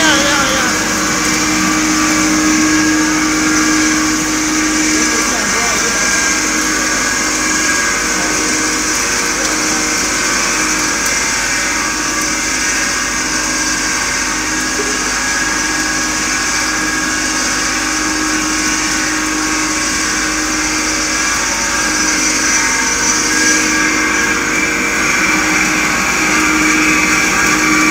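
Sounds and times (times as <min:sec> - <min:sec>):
popcorn machine humming and whining: 0:00.0 - 0:27.9.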